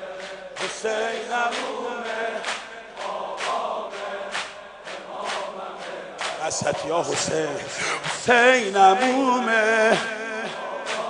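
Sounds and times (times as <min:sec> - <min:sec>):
men chanting in unison: 0:00.0 - 0:11.0
rhythmic chest-beating slaps: 0:00.0 - 0:11.0.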